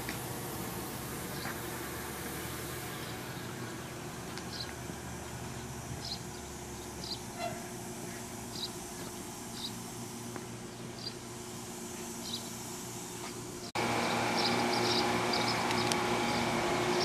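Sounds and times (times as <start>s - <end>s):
train hum and rumble: 0.0s - 17.0s.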